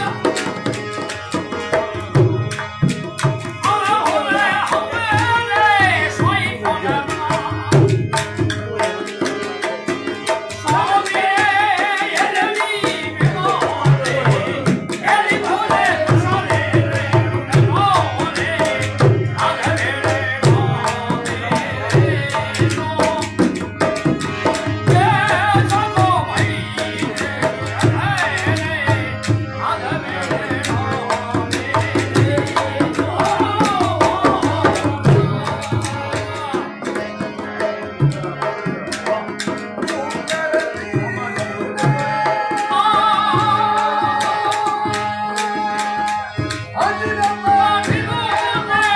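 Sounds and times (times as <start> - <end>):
harmonium: 0.0 - 48.9
men singing: 0.0 - 48.9.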